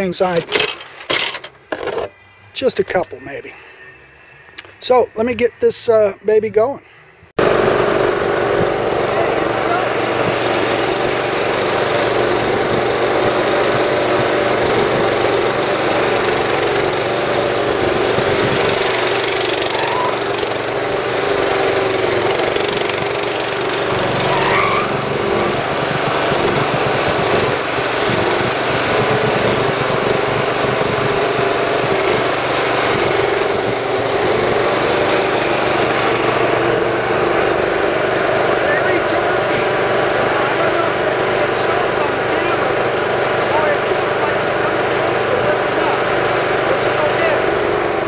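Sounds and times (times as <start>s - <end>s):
riding mower engine running: 0.0s - 6.7s, 7.3s - 48.0s.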